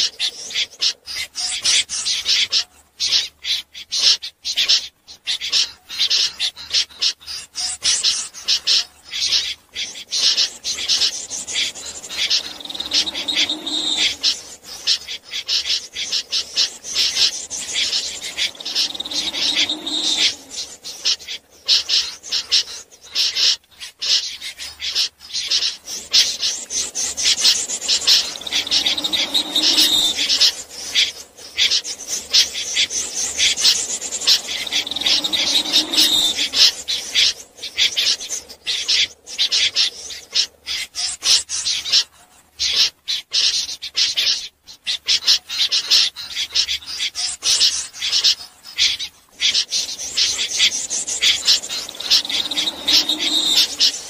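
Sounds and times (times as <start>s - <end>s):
snipe rasping calls: 0.0s - 54.0s.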